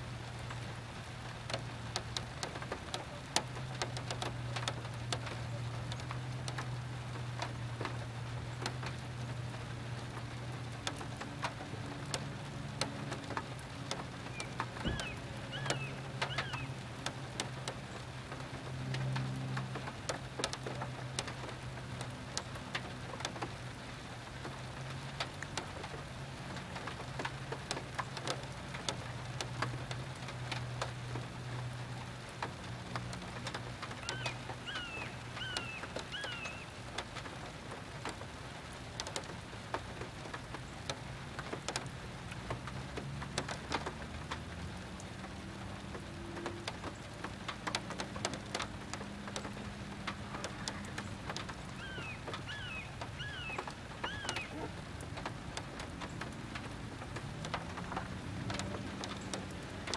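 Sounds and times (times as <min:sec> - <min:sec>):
rain falling on a pond: 0:00.0 - 0:59.9.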